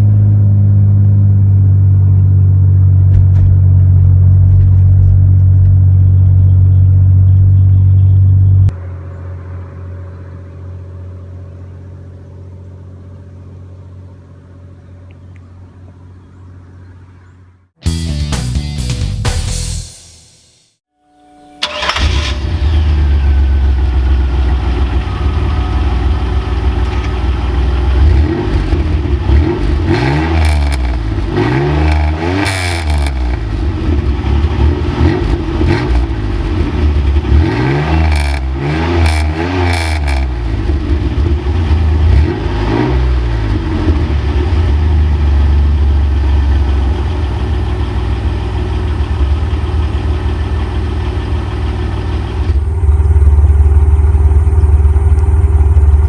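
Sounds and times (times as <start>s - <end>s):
car engine idling and revving: 0.0s - 17.7s, 21.6s - 56.0s.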